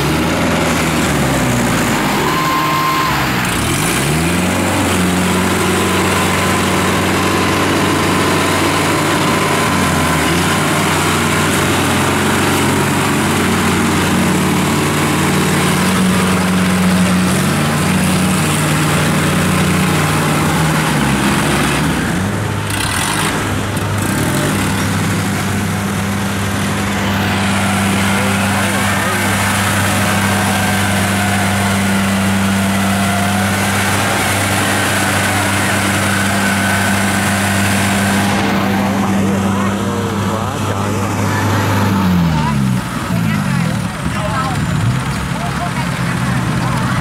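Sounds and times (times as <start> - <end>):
machine engines running: 0.0 - 47.0.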